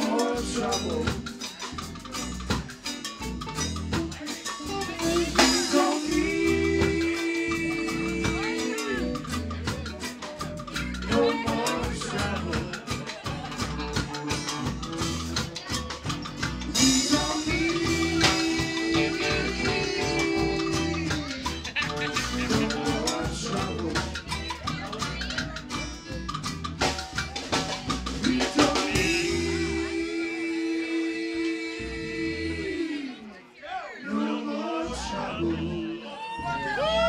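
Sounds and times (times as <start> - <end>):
guitars playing: 0.0 - 30.8
drum kit beat: 0.0 - 32.0.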